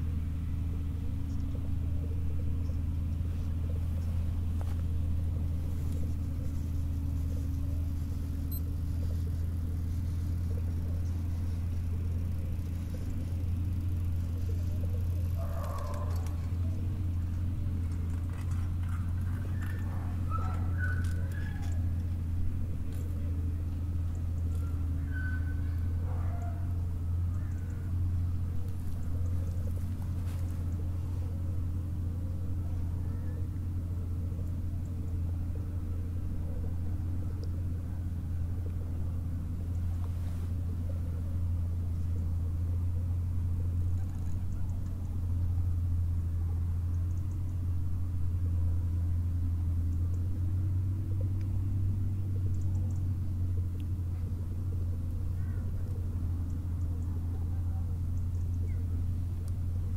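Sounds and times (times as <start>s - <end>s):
low engine rumble: 0.0s - 59.9s.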